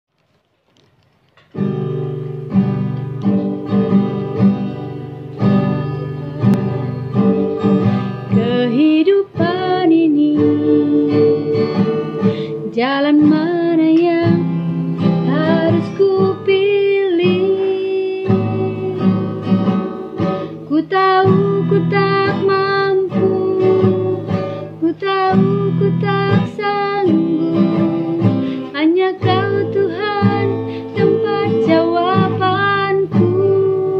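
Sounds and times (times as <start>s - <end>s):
acoustic guitar strumming: 1.5s - 33.9s
woman singing: 4.2s - 33.9s.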